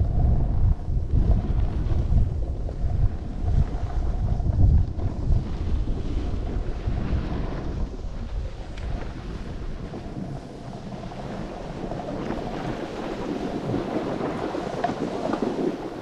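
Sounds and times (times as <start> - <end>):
low rumble: 0.0 - 14.9
snowboard sliding over snow: 0.0 - 16.0
wind buffeting microphone: 0.0 - 16.0.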